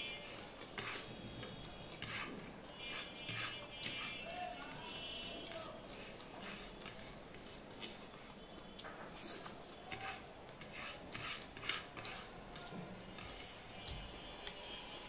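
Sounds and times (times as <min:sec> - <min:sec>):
fingers scraping a plate: 0:00.0 - 0:08.4, 0:09.2 - 0:15.0.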